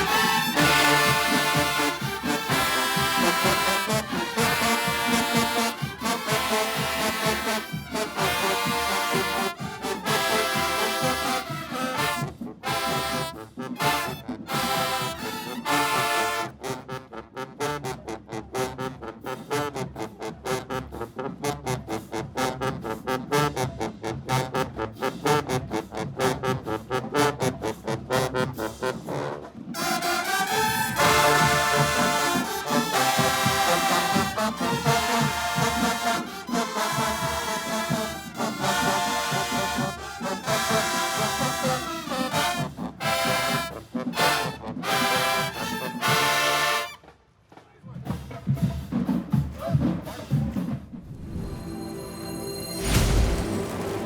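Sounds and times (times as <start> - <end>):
marching band brass playing: 0.0 - 47.2, 48.0 - 54.0.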